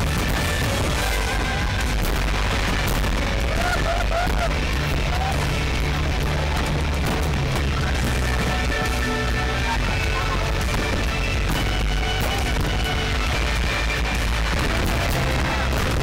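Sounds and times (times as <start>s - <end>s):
fireworks bursting and crackling: 0.0s - 16.0s
music playing: 0.0s - 16.0s.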